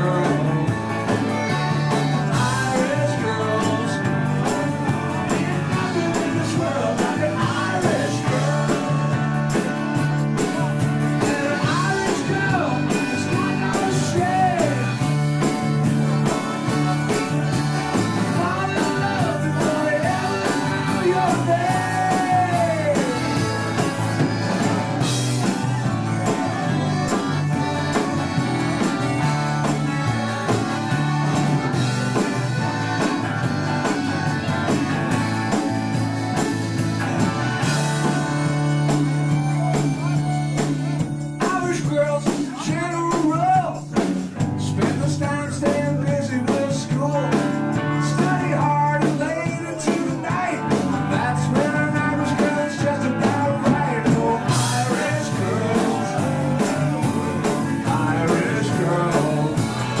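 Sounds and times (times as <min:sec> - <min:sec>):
band playing accordion music: 0:00.0 - 0:43.2, 0:43.8 - 1:00.0
person singing: 0:00.0 - 1:00.0
steady drum beat: 0:00.0 - 1:00.0.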